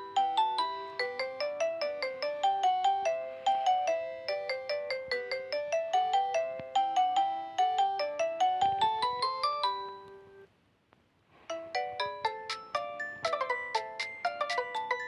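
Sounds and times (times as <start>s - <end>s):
phone ringtone melody: 0.0s - 10.5s, 11.5s - 15.0s.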